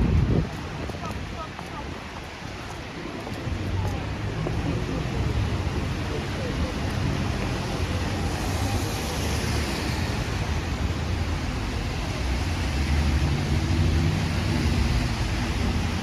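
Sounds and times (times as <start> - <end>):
tyres on wet road: 0.0 - 16.0.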